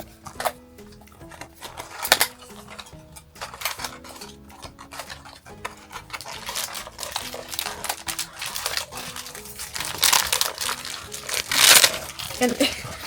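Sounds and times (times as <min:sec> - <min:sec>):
packaging clicks and rustles: 0:00.0 - 0:13.0
quiet background music: 0:00.0 - 0:13.0.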